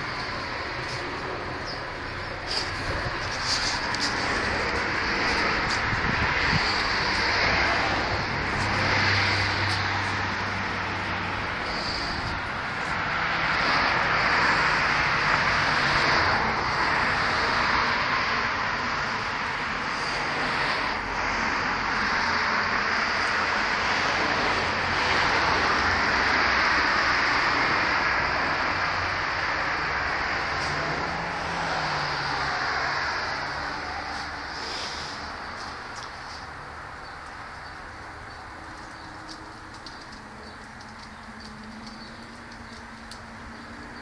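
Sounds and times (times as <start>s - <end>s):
road traffic noise: 0.0s - 44.0s.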